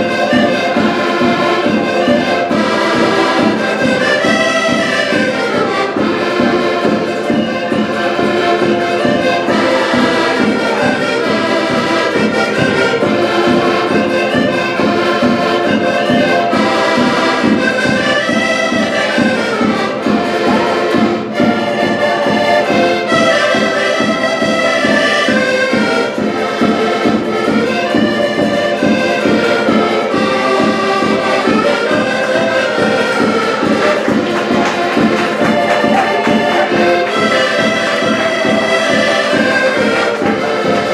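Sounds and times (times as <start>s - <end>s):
accordions playing a tune: 0.0s - 40.9s.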